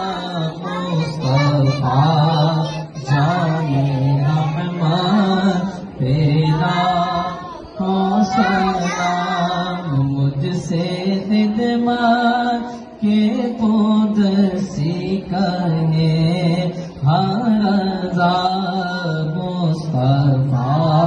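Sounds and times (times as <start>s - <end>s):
man chanting into microphone: 0.0s - 21.0s.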